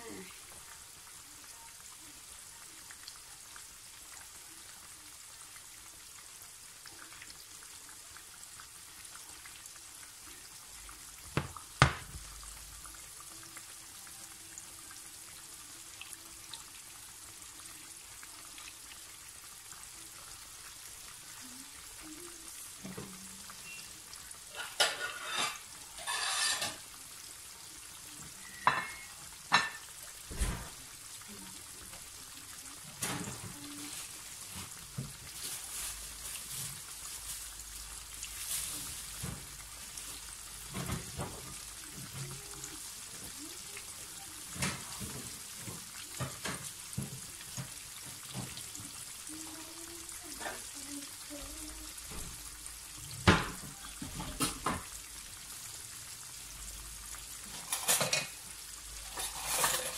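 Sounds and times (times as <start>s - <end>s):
chicken deep-frying in oil: 0.0s - 59.9s.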